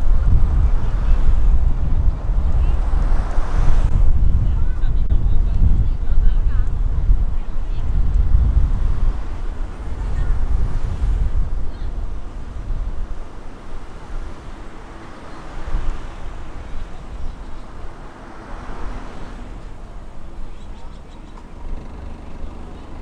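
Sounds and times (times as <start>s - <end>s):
car road and wind noise: 0.0s - 23.0s.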